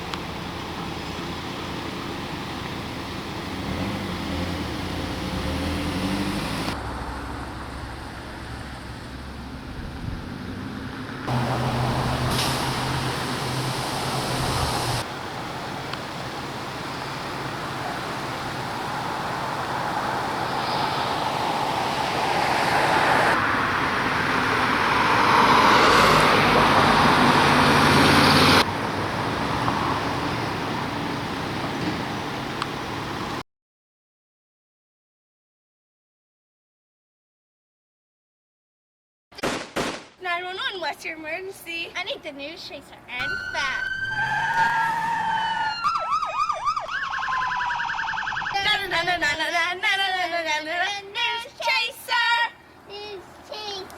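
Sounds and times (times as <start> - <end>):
road traffic noise: 0.0 - 33.4, 40.4 - 53.9.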